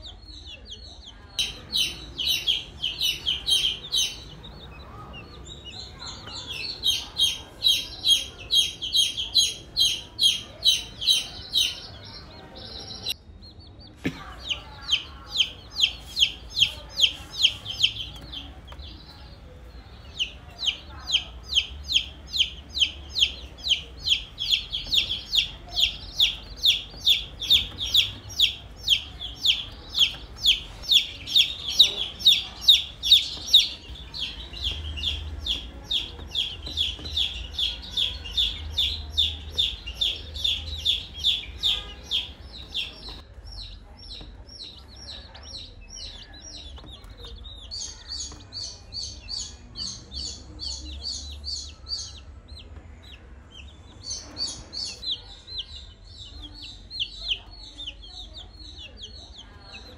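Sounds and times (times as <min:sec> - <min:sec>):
baby chicks peeping: 0:00.0 - 0:59.9.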